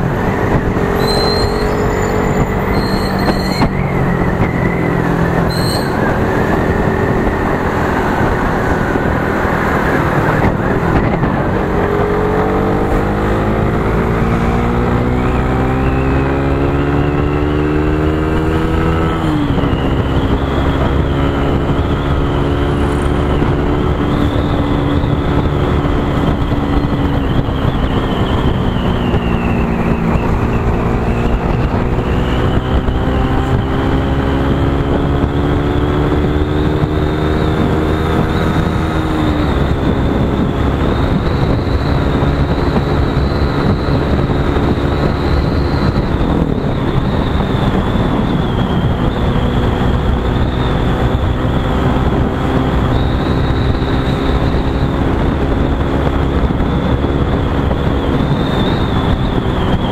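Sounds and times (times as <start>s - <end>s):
road noise: 0.0s - 59.9s
wind noise: 0.0s - 59.9s.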